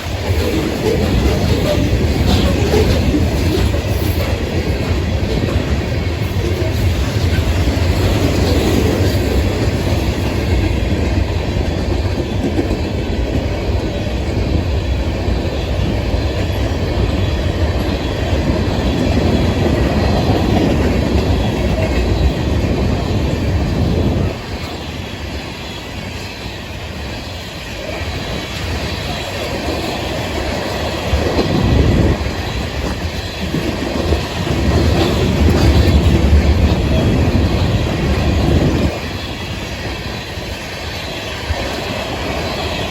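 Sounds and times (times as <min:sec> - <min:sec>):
clickety-clack over rail joints: 0:00.0 - 0:42.9
train wheels rumbling on rails: 0:00.0 - 0:42.9.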